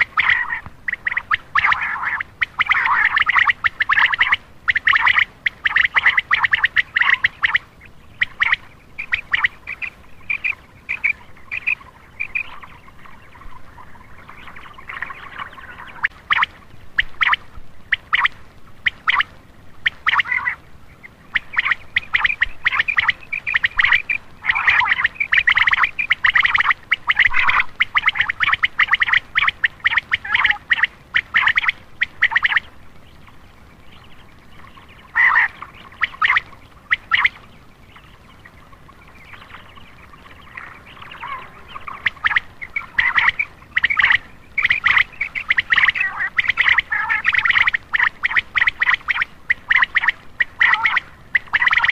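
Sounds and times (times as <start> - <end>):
quail calling: 0.0 - 51.9.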